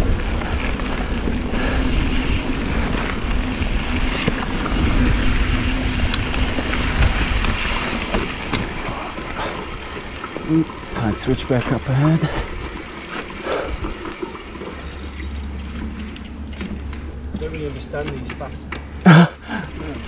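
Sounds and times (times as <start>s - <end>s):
bike rattling and knocking: 0.0s - 20.0s
bike tyres rumbling over gravel: 0.0s - 20.0s.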